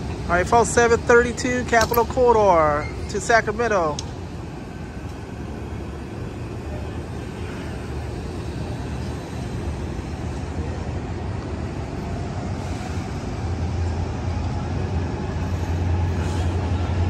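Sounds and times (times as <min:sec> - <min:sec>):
passenger train rumbling past: 0:00.0 - 0:17.0.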